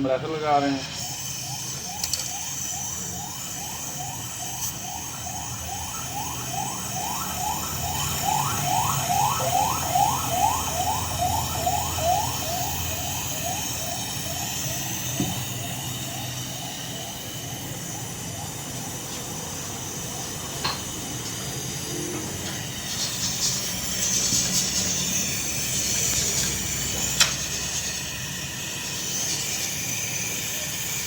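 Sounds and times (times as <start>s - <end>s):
siren alarm whooping: 1.0s - 31.0s.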